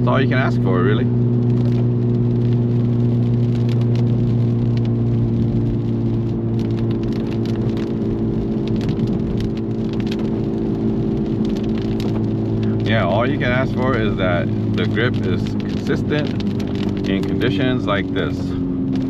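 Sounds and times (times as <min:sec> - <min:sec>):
car engine droning: 0:00.0 - 0:19.0
tyre noise on wet road: 0:00.0 - 0:19.0.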